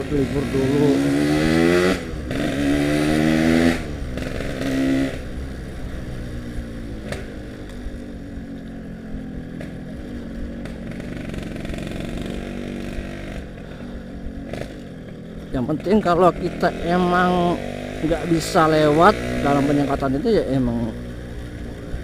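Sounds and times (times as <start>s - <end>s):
two-stroke motorcycle engine: 0.0s - 22.0s.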